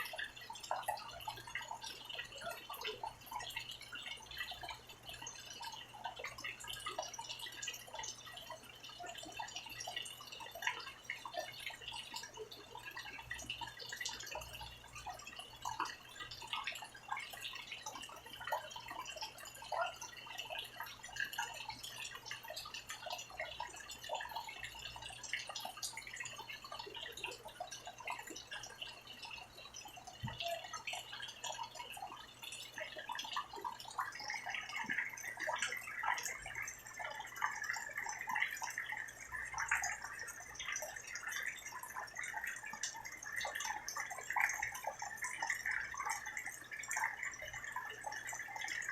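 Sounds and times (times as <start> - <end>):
rain falling and dripping: 0.0 - 48.9.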